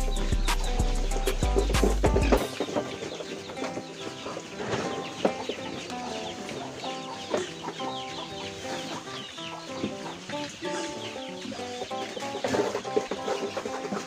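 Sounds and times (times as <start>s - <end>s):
chickens clucking and chirping: 0.0s - 14.0s
instrumental background music: 0.0s - 14.0s.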